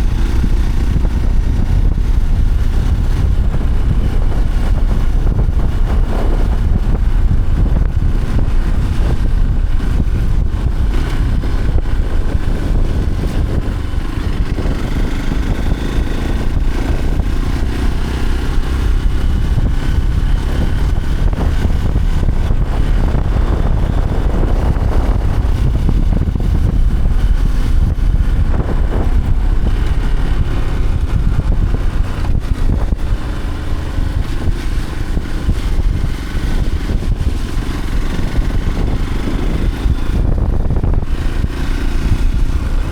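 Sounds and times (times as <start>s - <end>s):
vehicle engine low rumble: 0.0s - 42.9s.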